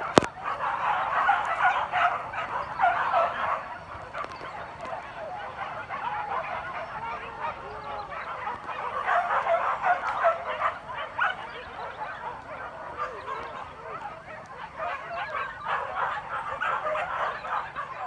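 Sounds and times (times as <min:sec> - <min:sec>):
dogs baying and yelping: 0:00.0 - 0:18.0.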